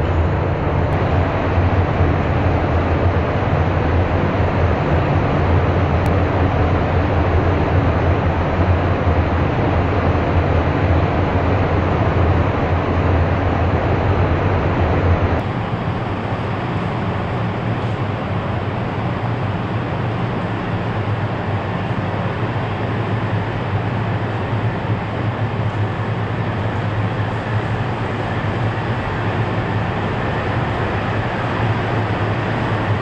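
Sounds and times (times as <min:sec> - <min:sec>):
train humming and rumbling: 0:00.0 - 0:33.0.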